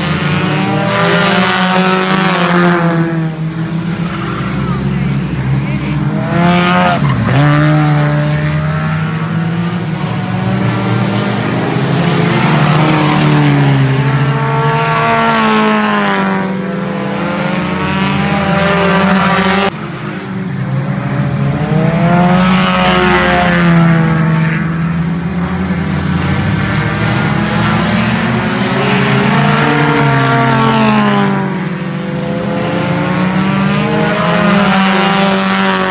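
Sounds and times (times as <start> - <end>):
race car engines revving: 0.0 - 35.9.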